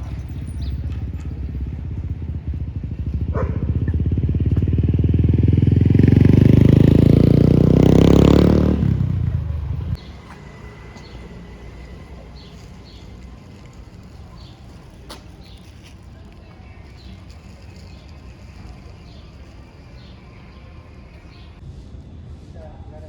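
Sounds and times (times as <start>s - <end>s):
vehicle engine passing by: 0.0s - 21.6s.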